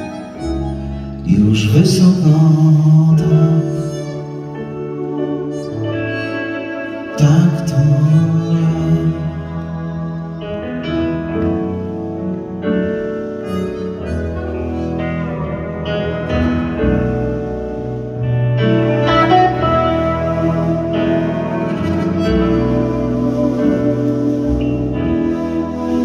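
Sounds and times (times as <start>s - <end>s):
harmonica held notes: 0.0s - 1.8s, 3.5s - 26.0s
electric guitar: 0.0s - 26.0s
keyboard: 0.0s - 26.0s.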